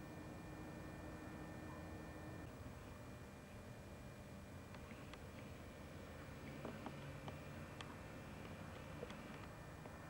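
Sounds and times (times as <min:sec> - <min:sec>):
faint tape hiss and rumble: 0:00.0 - 0:10.0.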